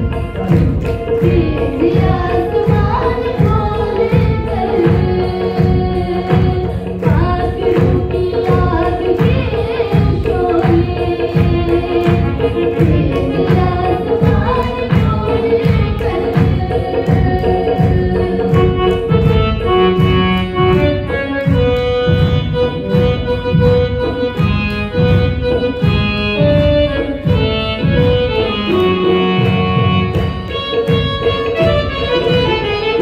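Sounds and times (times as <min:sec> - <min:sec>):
electronic drum pad beat: 0:00.0 - 0:33.0
organ-like keyboard melody: 0:00.0 - 0:33.0.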